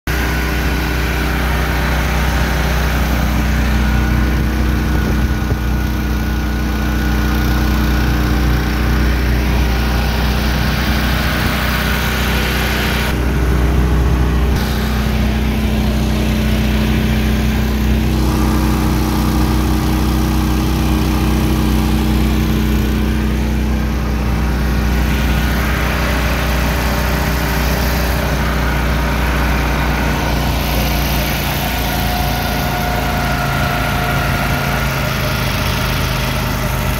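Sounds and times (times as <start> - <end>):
motorboat engine droning: 0.1 - 36.9.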